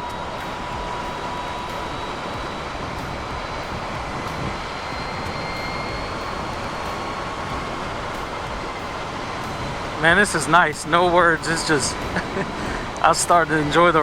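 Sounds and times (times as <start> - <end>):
high electric motor whine: 0.0 - 14.0
wind and road noise: 0.0 - 14.0.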